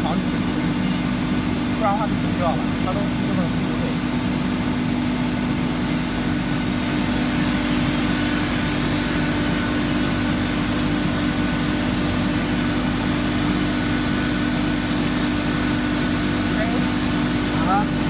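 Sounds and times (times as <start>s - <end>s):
air compressor humming: 0.0s - 18.0s.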